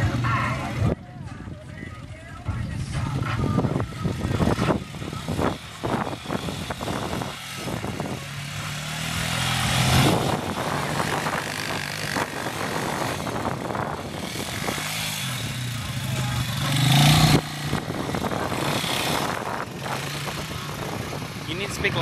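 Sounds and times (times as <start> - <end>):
quad engine revving: 2.8 - 22.0
rough uneven noise: 2.8 - 22.0.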